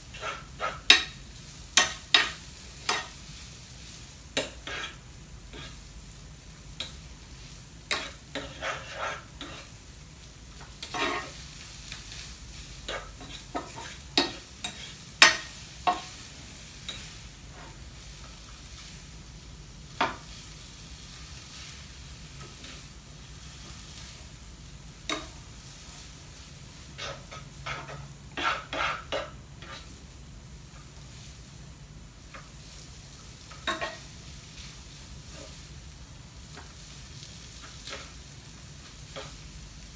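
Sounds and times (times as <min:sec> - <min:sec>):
spatula scraping a pan: 0:00.0 - 0:05.9, 0:06.8 - 0:09.9, 0:10.6 - 0:19.1, 0:19.9 - 0:24.3, 0:25.0 - 0:30.0, 0:32.3 - 0:35.7, 0:36.5 - 0:39.6
food sizzling in a frying pan: 0:00.0 - 0:39.9.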